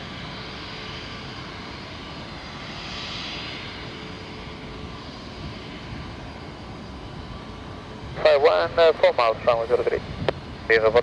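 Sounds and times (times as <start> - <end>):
distant jet engine: 0.0 - 11.0.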